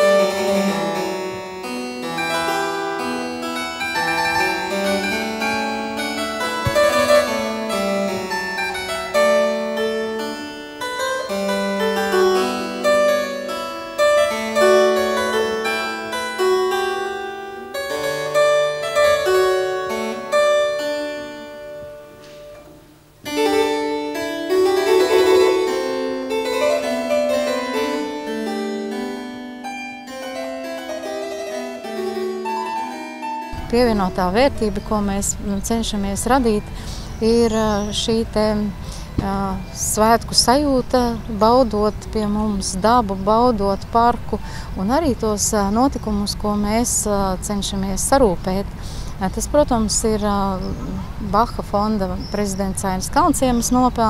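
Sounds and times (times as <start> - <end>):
harpsichord playing: 0.0 - 54.0.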